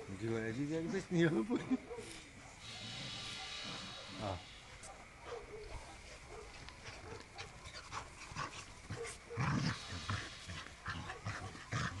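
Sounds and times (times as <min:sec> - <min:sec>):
dogs breathing: 0:01.8 - 0:12.0.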